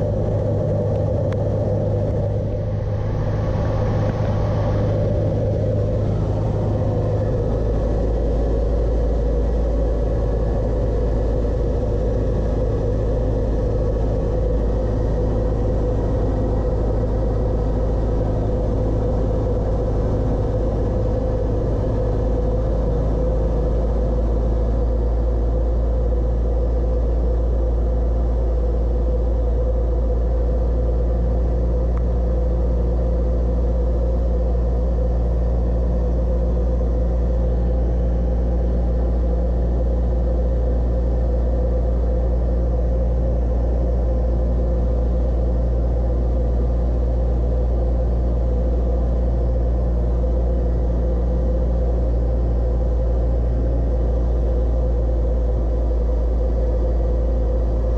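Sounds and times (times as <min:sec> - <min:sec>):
light aircraft engine droning: 0:00.0 - 0:57.9.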